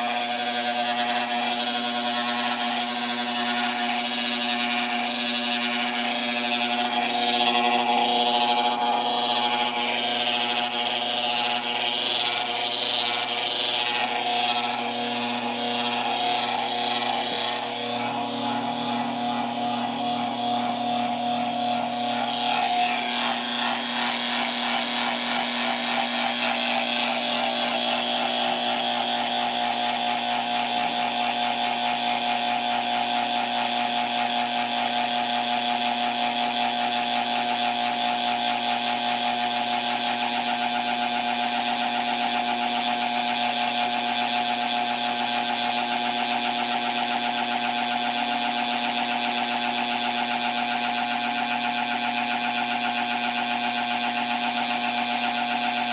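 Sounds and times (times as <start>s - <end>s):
fast even machine rattle: 0.0s - 55.9s
sealing machine humming: 0.0s - 55.9s.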